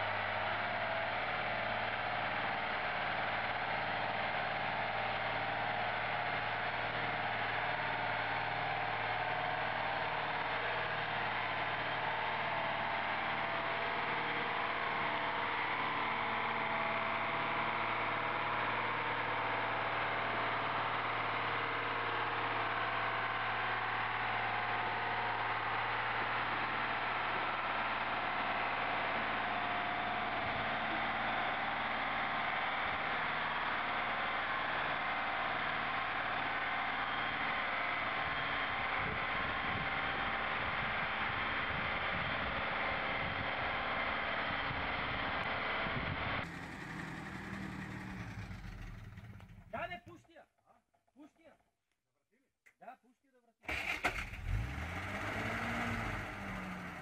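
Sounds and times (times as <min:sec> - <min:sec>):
truck engine droning: 0:00.0 - 0:50.0, 0:53.7 - 0:57.0.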